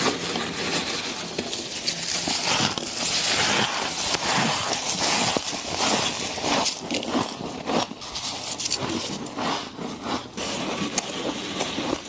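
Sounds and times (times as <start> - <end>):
ice being chewed: 0.0 - 12.0.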